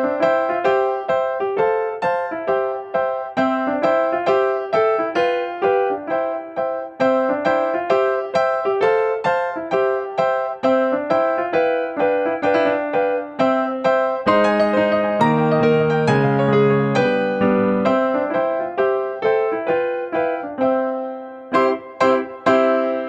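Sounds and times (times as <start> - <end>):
light piano-like keyboard music: 0.0 - 23.0.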